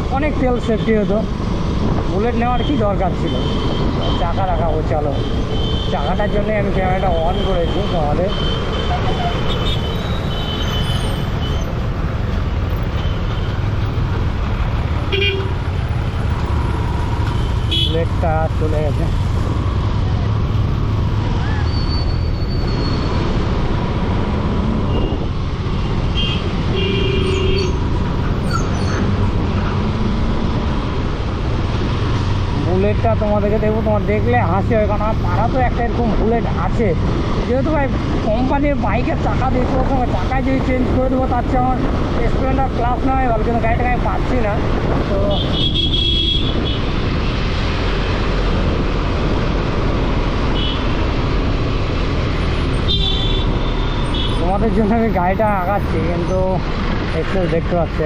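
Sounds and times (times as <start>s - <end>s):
passing traffic: 0.0s - 58.0s
rushing wind and road noise: 0.0s - 58.0s.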